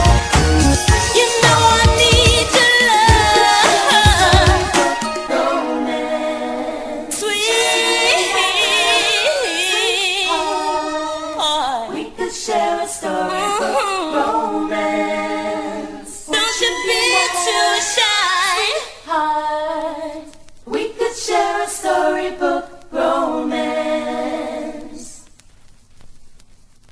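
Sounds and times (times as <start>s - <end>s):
women singing a cappella harmony: 0.9s - 25.3s.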